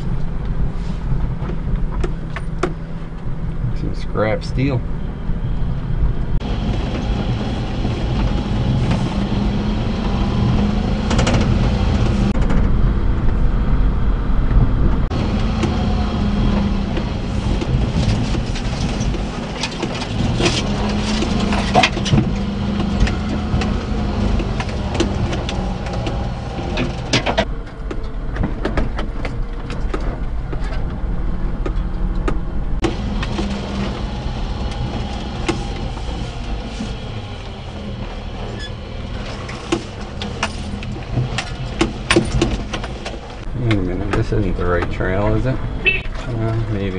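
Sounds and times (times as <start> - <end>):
truck engine running: 0.0 - 46.9
cab knocks and rattles: 6.4 - 12.8, 14.5 - 46.3.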